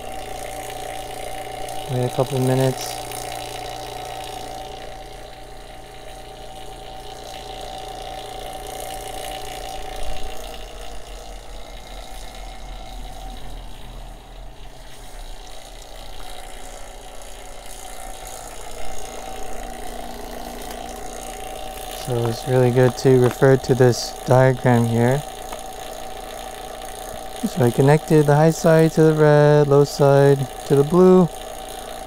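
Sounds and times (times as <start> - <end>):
electric vacuum pump humming: 0.0 - 32.0.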